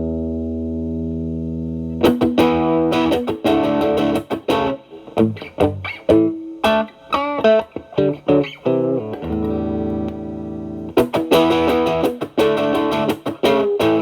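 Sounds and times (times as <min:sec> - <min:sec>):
overdriven electric guitar: 0:00.0 - 0:14.0.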